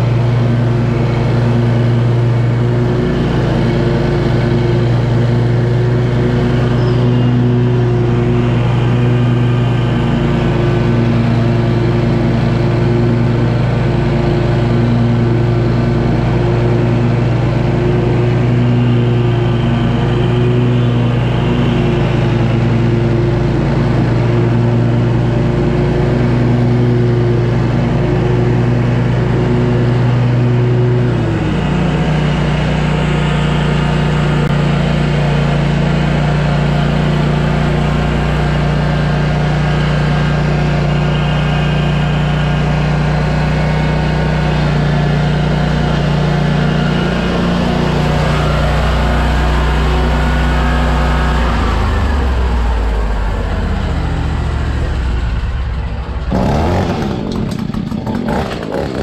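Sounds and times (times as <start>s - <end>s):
mower engine running: 0.0s - 59.0s.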